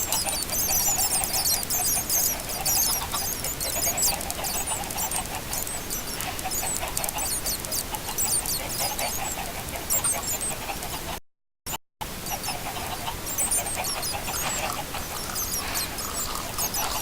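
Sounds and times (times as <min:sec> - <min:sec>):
chickens clucking: 0:00.0 - 0:11.2, 0:12.0 - 0:17.0.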